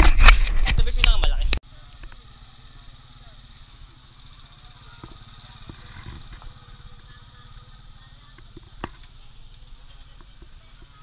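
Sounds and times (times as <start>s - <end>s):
motorcycle engine running low: 0.0s - 11.0s.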